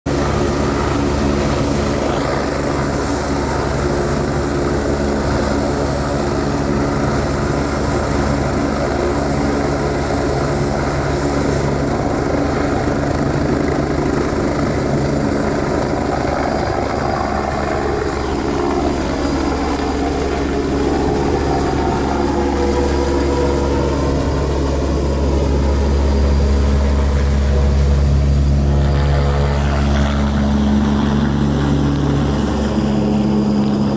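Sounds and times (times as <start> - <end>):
helicopter rotor: 0.1 - 33.9
high turbine whine: 0.1 - 33.9.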